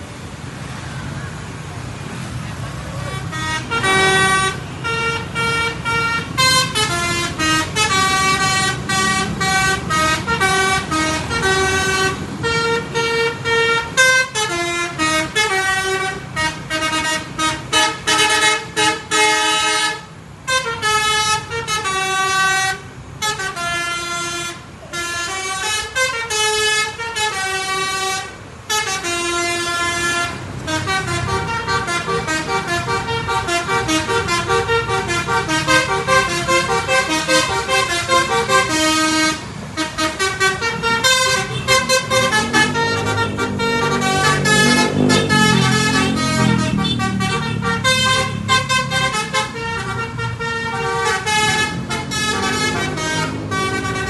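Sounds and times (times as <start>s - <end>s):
bus engine rumble: 0.0s - 54.0s
bus horn playing melody: 2.9s - 54.0s.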